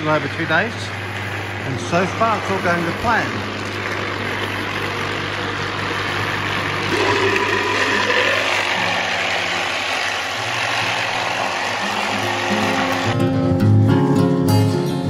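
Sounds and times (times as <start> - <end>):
electric hum: 0.0 - 14.0.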